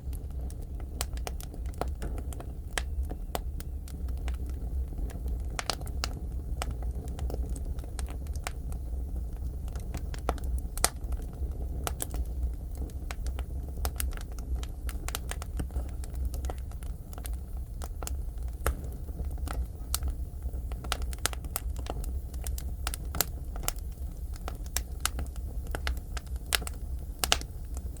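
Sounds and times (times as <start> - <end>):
firewood crackling and popping: 0.0 - 28.0
low furnace rumble: 0.0 - 28.0.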